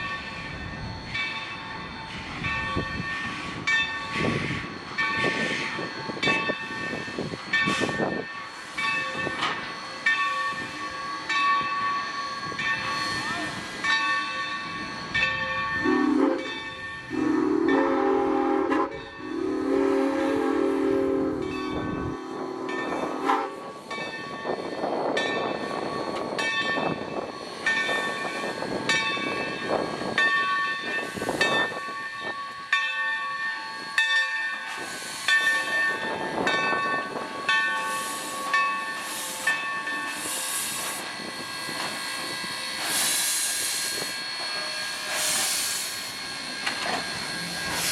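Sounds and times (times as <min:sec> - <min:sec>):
steam locomotive chime whistle: 0:00.0 - 0:47.9
steam locomotive exhaust chuffing: 0:00.3 - 0:47.9
steam hissing: 0:02.0 - 0:32.7, 0:33.3 - 0:47.9.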